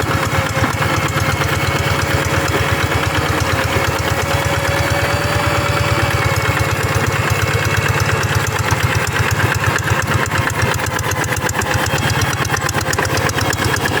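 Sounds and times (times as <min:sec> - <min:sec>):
diesel tractor engine chugging: 0:00.0 - 0:14.0.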